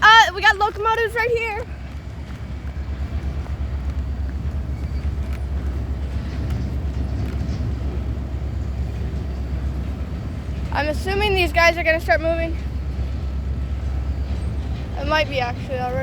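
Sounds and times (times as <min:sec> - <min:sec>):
locomotives idling: 0:00.0 - 0:16.0.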